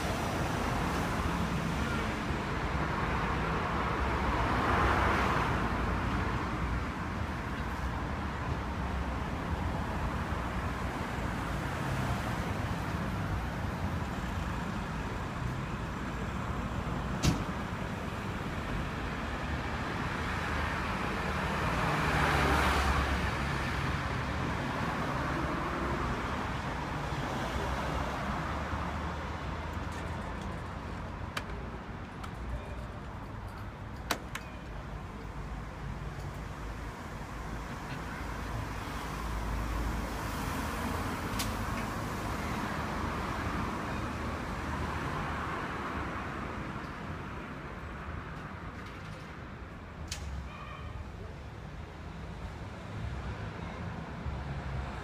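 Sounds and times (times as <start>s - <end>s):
street traffic: 0.0s - 55.0s.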